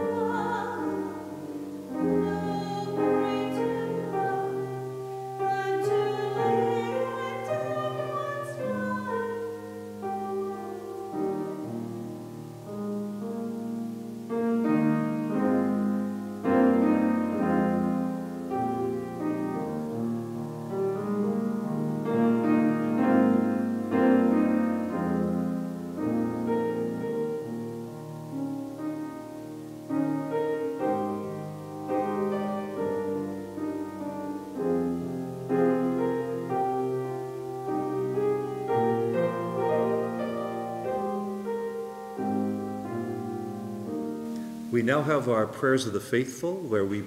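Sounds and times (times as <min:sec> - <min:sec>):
slow piano piece: 0:00.0 - 0:47.0.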